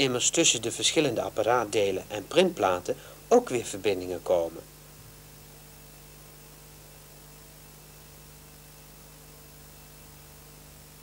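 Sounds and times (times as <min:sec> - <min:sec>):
faint tape hiss: 0:00.0 - 0:11.0
mains hum: 0:00.0 - 0:11.0.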